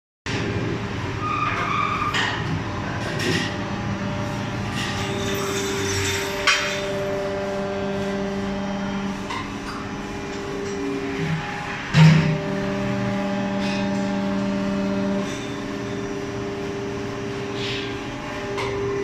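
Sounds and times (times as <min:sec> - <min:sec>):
machinery humming: 0:00.3 - 0:19.0.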